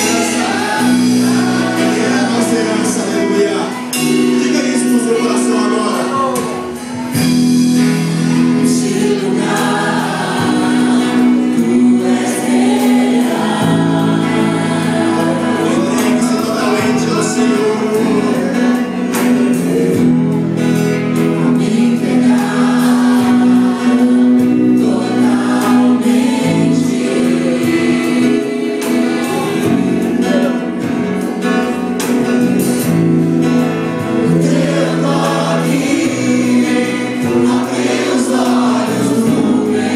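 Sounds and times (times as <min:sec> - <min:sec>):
group singing together: 0:00.0 - 0:39.9
worship band playing: 0:00.0 - 0:39.9.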